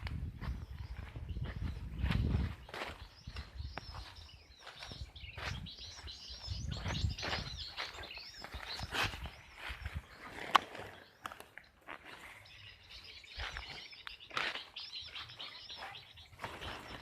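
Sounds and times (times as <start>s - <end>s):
bird chirping and twittering: 0.2s - 17.0s.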